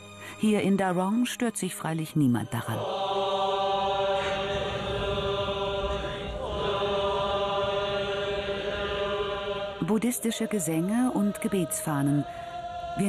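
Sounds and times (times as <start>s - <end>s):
voices droning chant: 2.4s - 13.0s.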